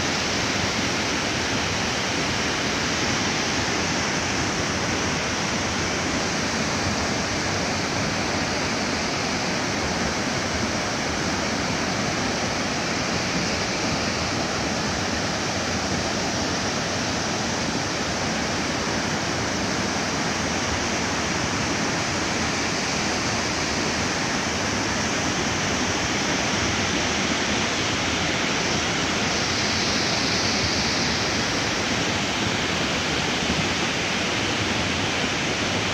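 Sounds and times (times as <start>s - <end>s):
river rushing in flood: 0.0s - 35.9s.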